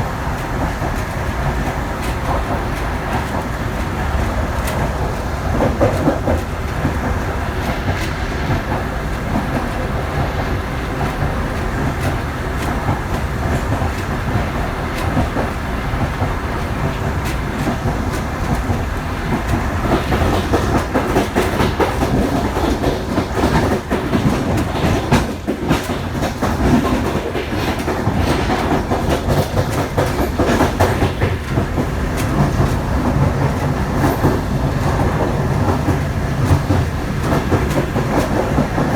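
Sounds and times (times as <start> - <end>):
train rumbling on rails: 0.0 - 38.9
wheels clicking over rail joints: 0.0 - 38.9.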